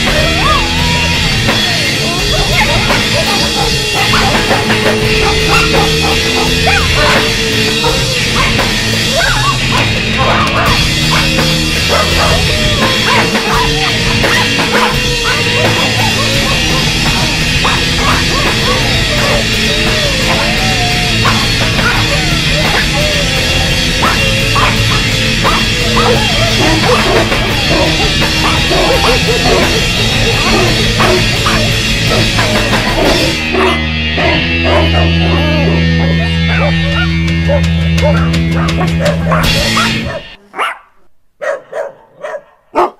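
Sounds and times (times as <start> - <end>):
drum kit with crashing cymbals: 0.0 - 35.0
bass guitar: 0.0 - 40.4.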